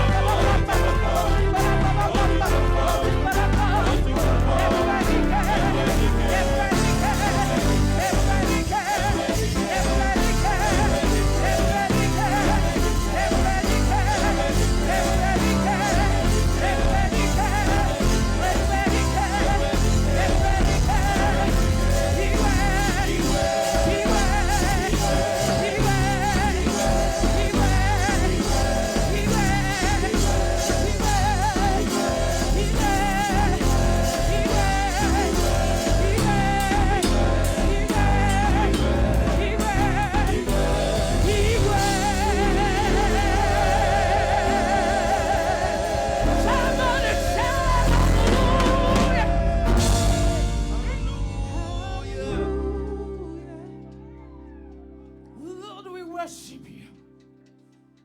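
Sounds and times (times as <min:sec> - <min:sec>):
voices singing: 0:00.0 - 0:54.0
band playing worship music: 0:00.0 - 0:55.7.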